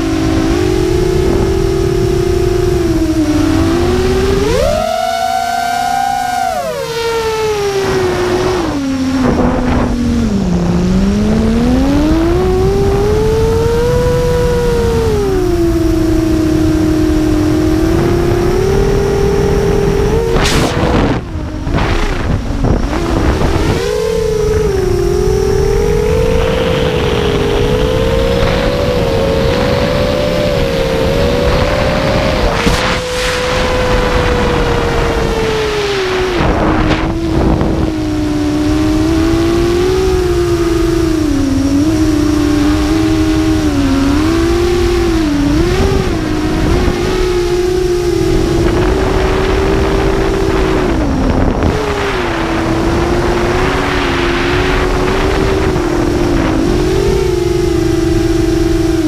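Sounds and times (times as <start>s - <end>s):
drone motors whining: 0.0s - 59.0s
wind rushing over microphone: 0.0s - 59.0s.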